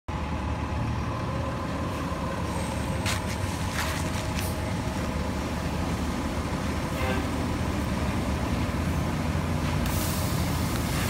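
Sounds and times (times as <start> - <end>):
bus engine rumble: 0.1 - 11.0.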